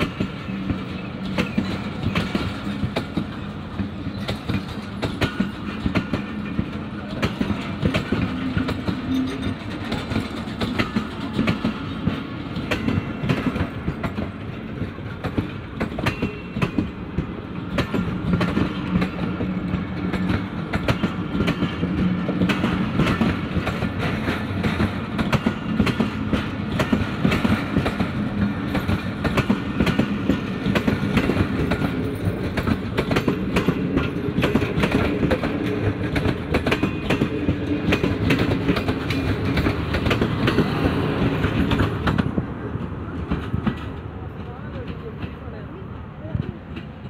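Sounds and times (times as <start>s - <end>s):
train rumble: 0.0s - 47.0s
train wheels clattering over rail joints: 0.0s - 47.0s.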